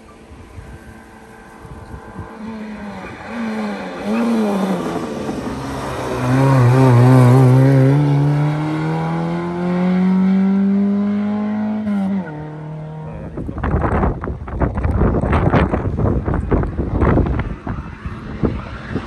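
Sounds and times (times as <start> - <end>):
rally car engine: 0.0 - 19.0.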